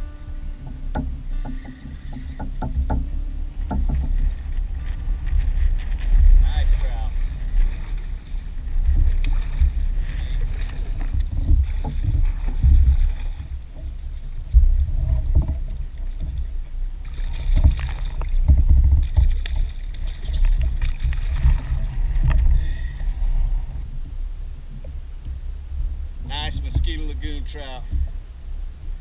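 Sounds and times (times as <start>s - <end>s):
kayak splashes and knocks: 0.0s - 23.5s
wind gusting over microphone: 0.0s - 29.0s.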